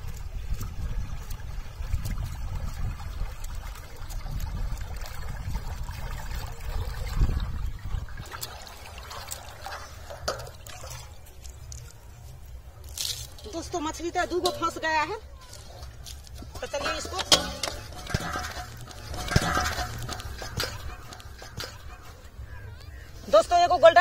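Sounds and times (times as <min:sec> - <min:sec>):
water dripping: 0:00.0 - 0:24.0
water splashing and trickling: 0:00.0 - 0:24.0.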